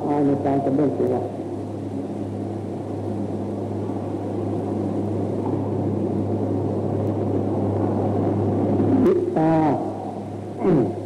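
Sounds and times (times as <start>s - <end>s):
low hum: 0.0s - 11.0s
rushing background noise: 0.0s - 11.0s.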